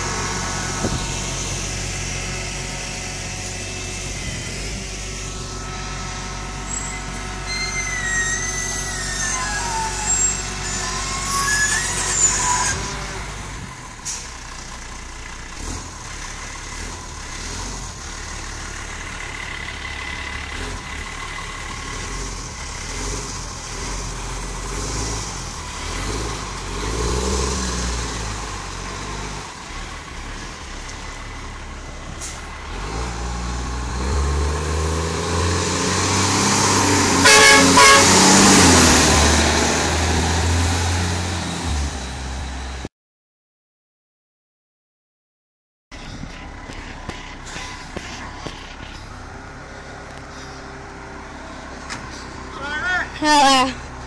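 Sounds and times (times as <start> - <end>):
brakes squealing: 0.0 - 42.8, 45.9 - 54.0
garbage truck diesel engine: 0.0 - 42.9, 45.9 - 54.0.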